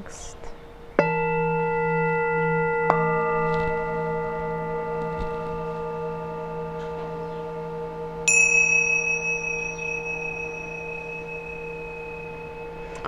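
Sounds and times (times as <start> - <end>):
high-pitched singing bowl struck: 0.0 - 13.0
low singing bowl humming: 0.0 - 13.0.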